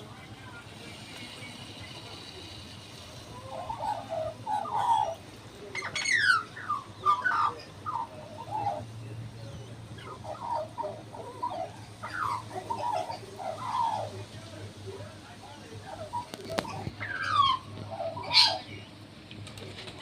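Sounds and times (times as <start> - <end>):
bird warbling song: 0.1 - 19.0.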